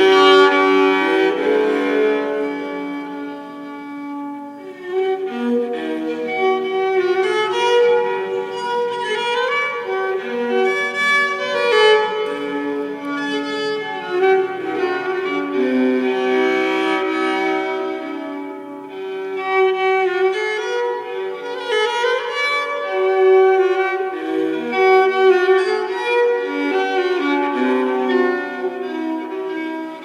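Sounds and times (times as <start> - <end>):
violin playing bowed melody: 0.0 - 30.0.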